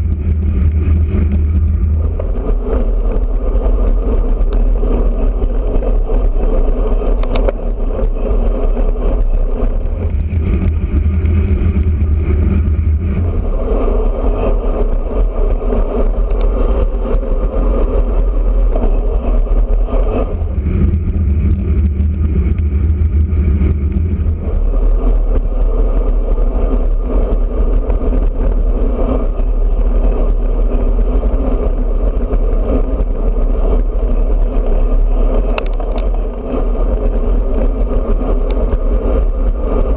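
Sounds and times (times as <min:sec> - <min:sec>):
deeper rumble: 0:00.0 - 0:39.9
tyre and road noise: 0:00.0 - 0:39.9
wind rushing over camera: 0:00.0 - 0:39.9.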